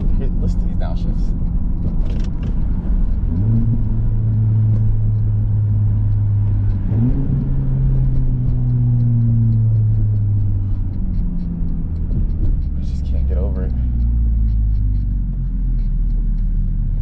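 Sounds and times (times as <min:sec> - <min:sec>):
car engine downshifting: 0:00.0 - 0:17.0.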